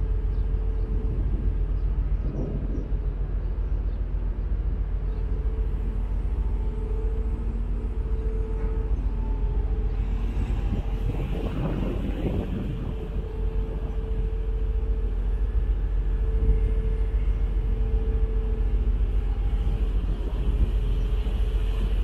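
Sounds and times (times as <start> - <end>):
ferry engines rumbling: 0.0 - 22.0.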